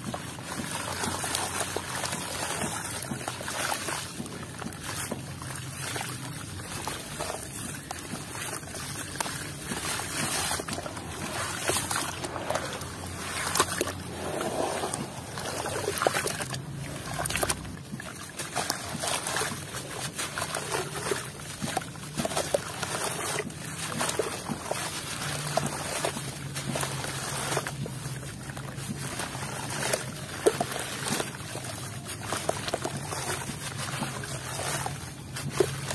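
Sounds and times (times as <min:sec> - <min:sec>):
water sloshing and splashing: 0:00.0 - 0:35.9.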